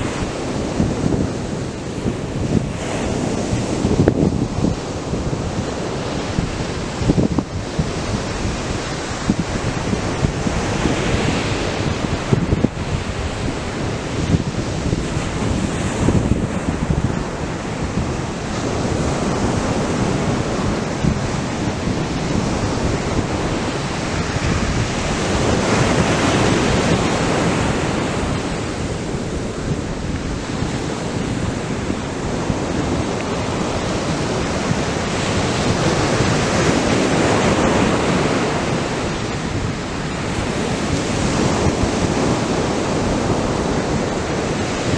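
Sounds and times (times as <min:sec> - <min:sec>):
surf breaking on beach: 0:00.0 - 0:44.9.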